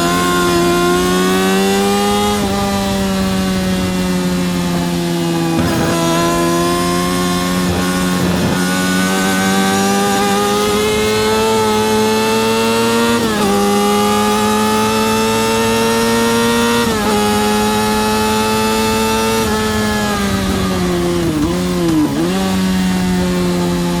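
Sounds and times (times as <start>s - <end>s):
motorcycle engine pulling hard: 0.0s - 24.0s
quick gear upshifts: 0.0s - 24.0s.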